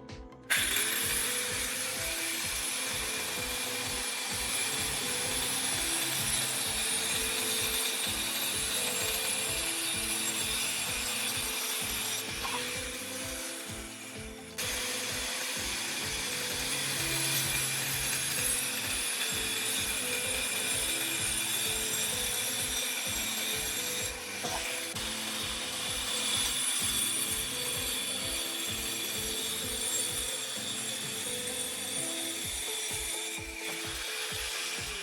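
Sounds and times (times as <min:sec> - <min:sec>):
music with steady beat: 0:00.0 - 0:35.0
power tool cutting or sanding: 0:00.0 - 0:35.0.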